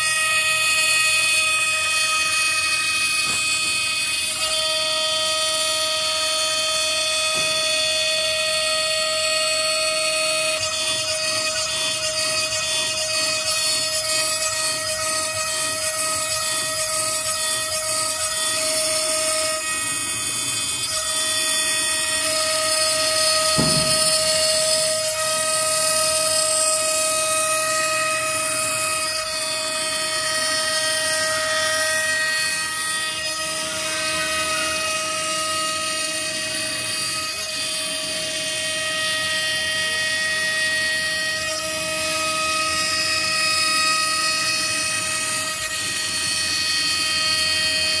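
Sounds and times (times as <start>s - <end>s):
router spindle whining: 0.0s - 48.0s.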